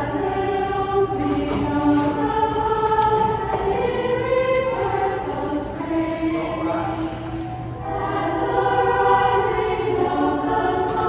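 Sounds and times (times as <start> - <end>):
choir singing long held notes: 0.0 - 11.0.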